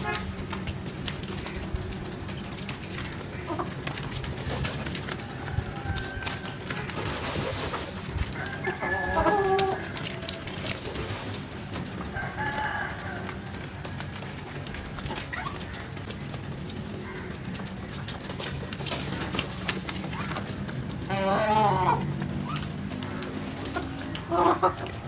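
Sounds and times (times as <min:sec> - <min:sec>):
birds calling: 0:00.0 - 0:25.0.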